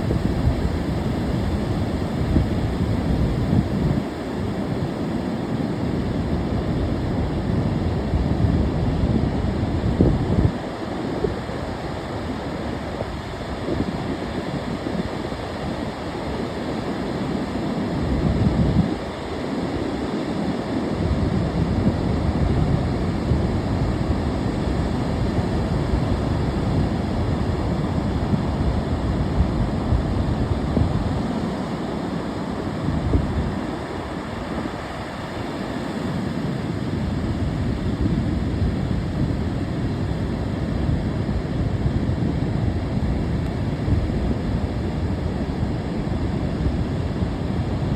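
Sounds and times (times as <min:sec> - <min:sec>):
ocean surf washing ashore: 0:00.0 - 0:47.9
wind rumbling on microphone: 0:00.0 - 0:47.9.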